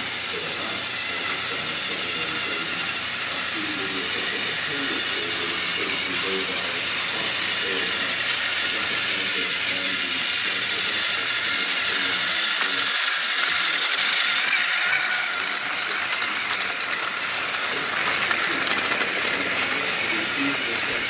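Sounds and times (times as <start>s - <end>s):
toy train motor whirring: 0.0s - 21.0s
plastic cars rattling on track: 0.3s - 21.0s.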